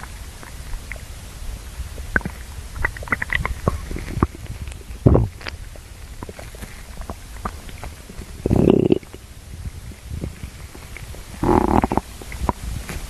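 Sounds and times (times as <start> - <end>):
stomach growling and gurgling: 0.0 - 13.0.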